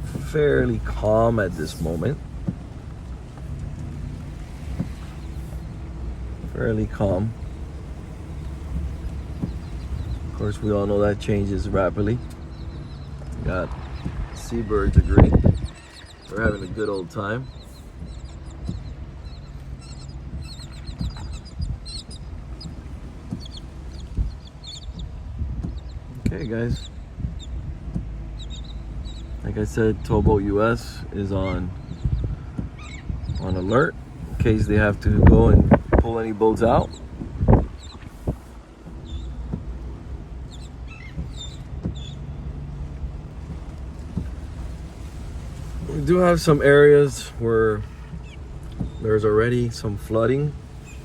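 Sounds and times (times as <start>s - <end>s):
dull thumps: 0.0s - 51.0s
low rumble: 0.0s - 51.0s
seabirds calling: 0.0s - 51.0s.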